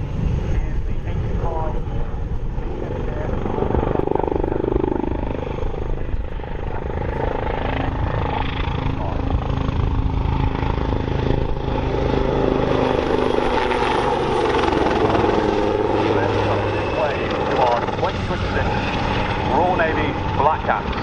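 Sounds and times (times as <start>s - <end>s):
helicopter rotor and turbine: 0.0s - 21.0s.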